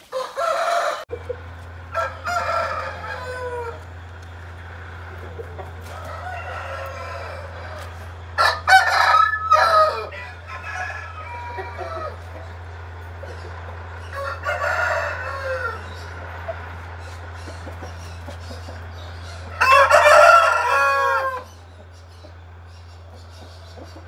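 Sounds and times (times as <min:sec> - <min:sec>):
rooster crowing: 0:00.0 - 0:21.7
steady low hum: 0:01.0 - 0:24.0.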